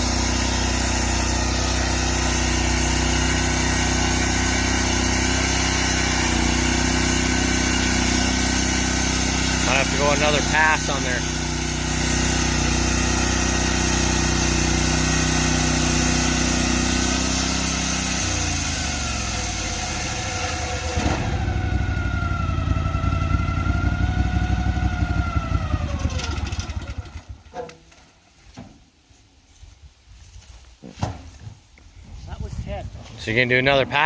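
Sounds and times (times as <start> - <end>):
sawmill engine running: 0.0 - 28.0.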